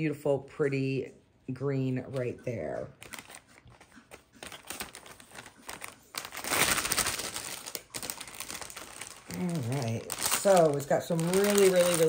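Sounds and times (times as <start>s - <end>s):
plastic packaging crinkling: 2.1s - 12.0s.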